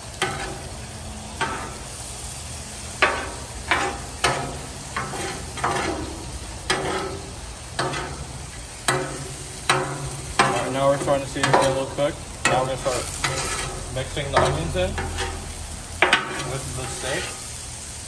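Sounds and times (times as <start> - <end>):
steak sizzling: 0.0 - 18.0
metal spatula scraping griddle: 0.1 - 17.6.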